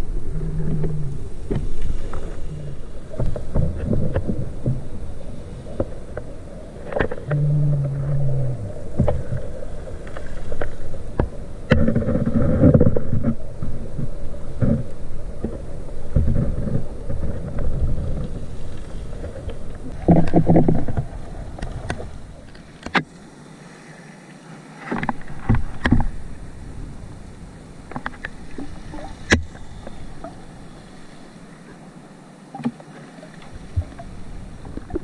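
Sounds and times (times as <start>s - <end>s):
underwater water rushing: 0.0s - 35.0s.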